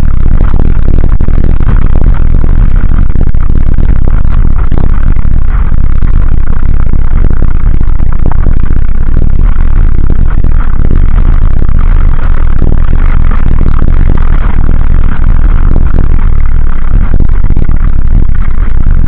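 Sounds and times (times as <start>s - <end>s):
wind rush: 0.0s - 19.0s.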